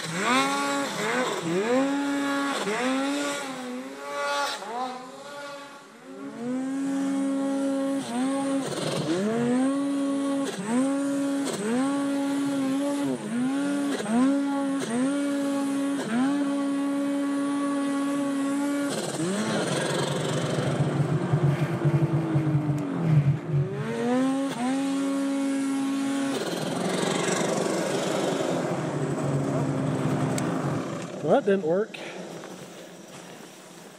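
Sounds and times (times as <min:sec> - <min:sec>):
snowmobile engine revving: 0:00.0 - 0:33.9.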